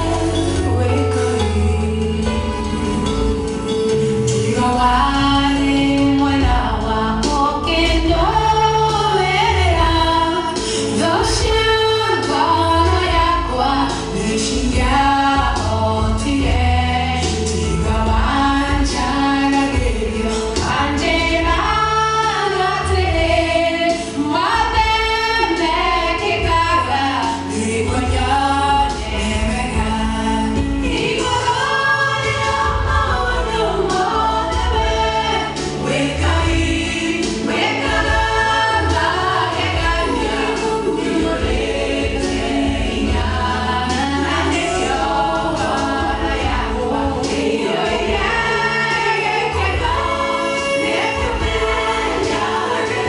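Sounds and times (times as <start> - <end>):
low bass line: 0.0 - 53.0
vocal group singing: 0.0 - 53.0.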